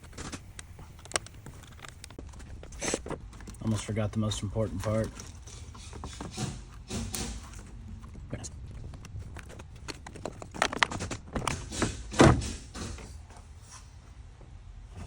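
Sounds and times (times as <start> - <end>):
light knocks and clicks of parts: 0.0 - 13.5.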